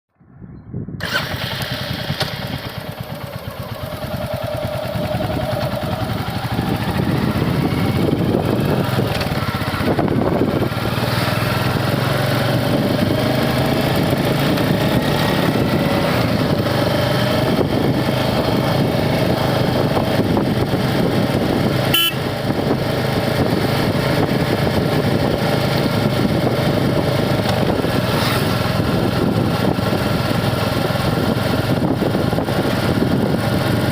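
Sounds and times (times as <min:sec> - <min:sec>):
motorcycle engine running: 0:01.0 - 0:33.9.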